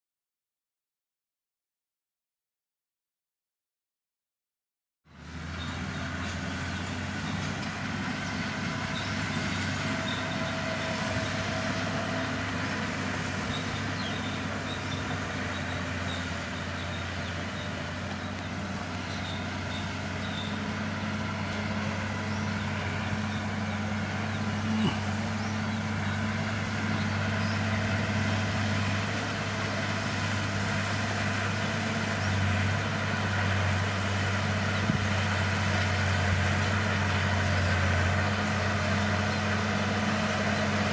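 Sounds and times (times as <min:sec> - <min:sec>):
diesel engine running: 0:05.1 - 0:40.9.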